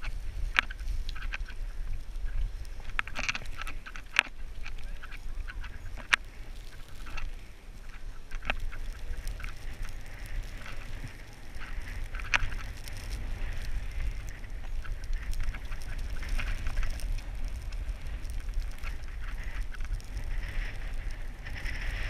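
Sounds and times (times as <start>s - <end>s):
skis scraping over snow: 0.0s - 22.0s
wind buffeting microphone: 0.0s - 22.0s.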